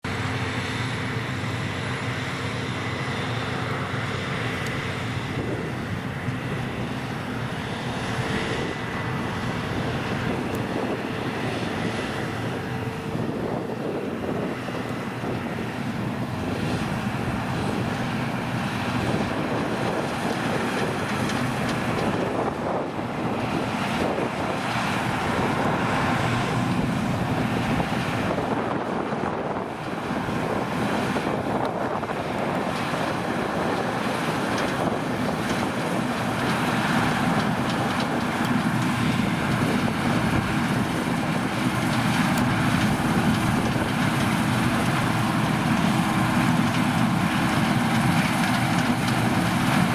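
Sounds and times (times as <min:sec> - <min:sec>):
combine harvester running: 0:00.0 - 0:49.9
wind buffeting microphone: 0:00.0 - 0:49.9.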